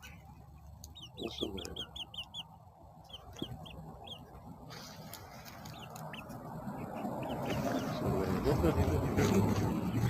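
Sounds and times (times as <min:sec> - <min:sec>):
small birds cheeping: 0:00.0 - 0:08.8.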